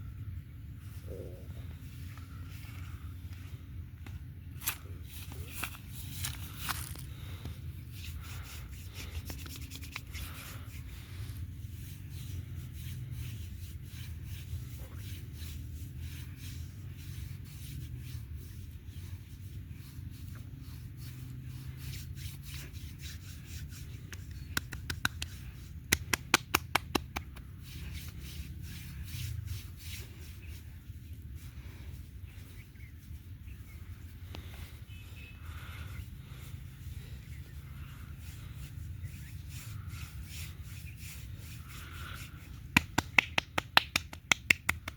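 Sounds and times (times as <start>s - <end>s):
hands rubbing oiled skin: 4.7s - 34.7s, 37.7s - 44.9s.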